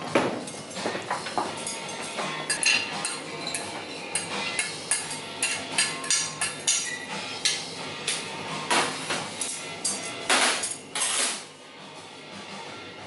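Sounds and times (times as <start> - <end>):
dishes and cutlery clattering: 0.1 - 11.4.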